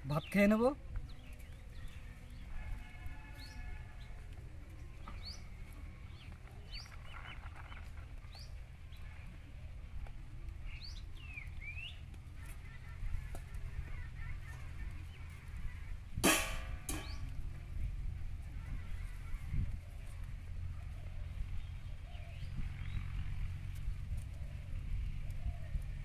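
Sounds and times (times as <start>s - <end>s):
small birds chirping: 0.0s - 16.1s, 18.4s - 26.0s
low steady rumble: 0.8s - 26.0s.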